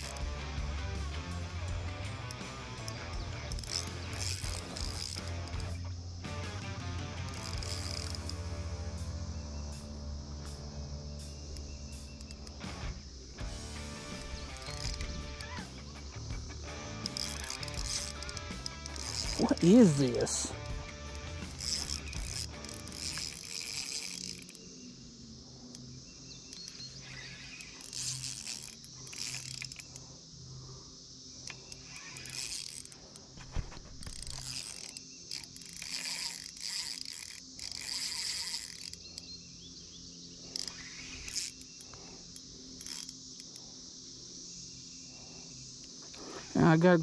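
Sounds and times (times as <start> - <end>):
fishing reel clicking: 0.0 - 9.5, 11.3 - 30.8, 31.4 - 39.4, 40.4 - 43.8
insects chirring: 0.0 - 47.0.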